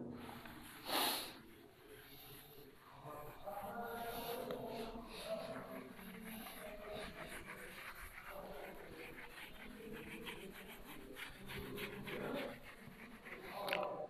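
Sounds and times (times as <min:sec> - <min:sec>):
eraser rubbing on whiteboard: 0:00.3 - 0:14.0.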